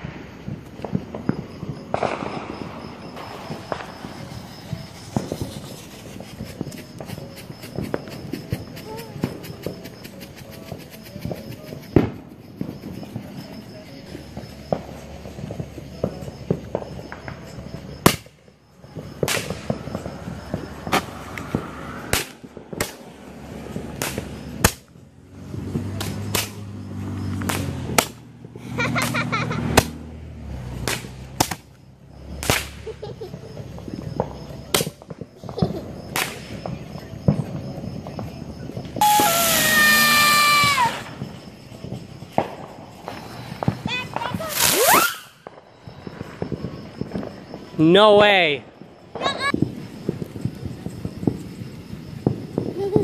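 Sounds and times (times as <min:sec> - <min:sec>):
fireworks and firecrackers banging: 0:00.0 - 0:53.0.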